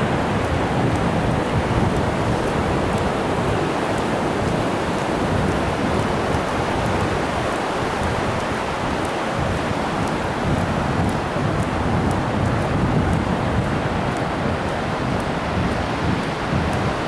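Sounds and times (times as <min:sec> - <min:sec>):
ocean surf washing onto beach: 0:00.0 - 0:17.0
wind on microphone: 0:00.0 - 0:17.0.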